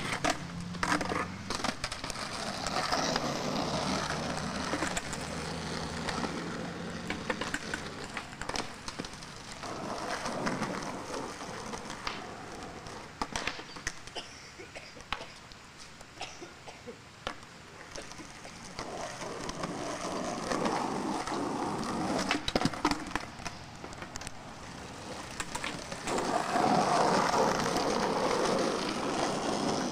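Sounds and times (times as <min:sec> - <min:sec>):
skateboard knocks: 0:00.0 - 0:14.2, 0:17.2 - 0:29.9
skateboard wheels rolling on concrete: 0:00.0 - 0:29.9.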